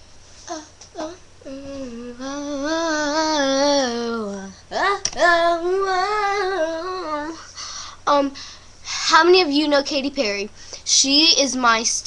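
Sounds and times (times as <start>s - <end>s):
girl singing wordless notes: 0.4s - 12.0s.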